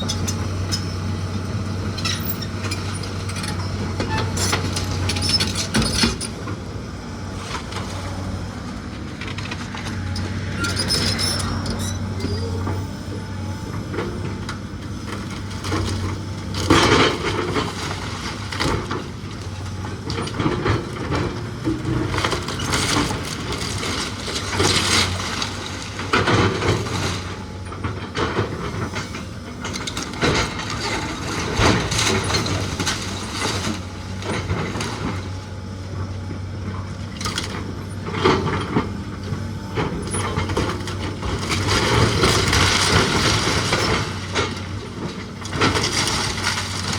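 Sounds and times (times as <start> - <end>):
heavy machine engine running: 0.0 - 46.9.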